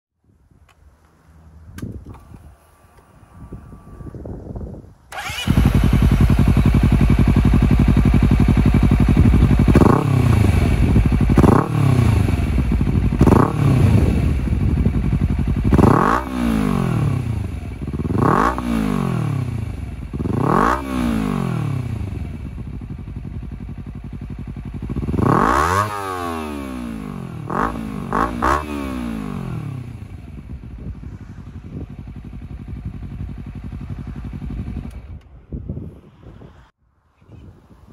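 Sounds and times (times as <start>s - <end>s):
motorcycle engine revving and idling: 3.2s - 36.5s.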